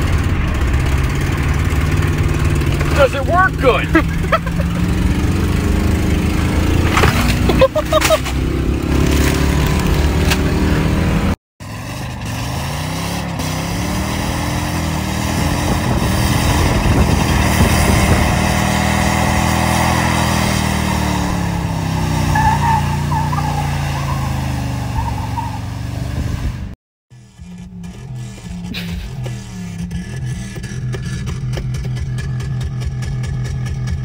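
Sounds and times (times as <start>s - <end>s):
loud engine: 0.0s - 34.0s
truck engine revving: 0.0s - 34.0s.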